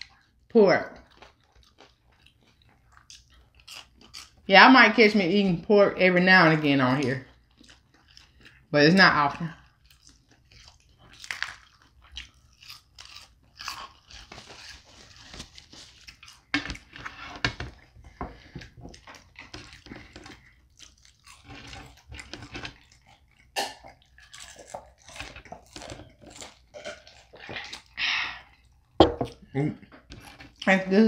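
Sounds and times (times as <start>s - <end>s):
crunching bites and chewing: 1.0s - 4.5s, 7.2s - 8.7s, 9.5s - 30.7s.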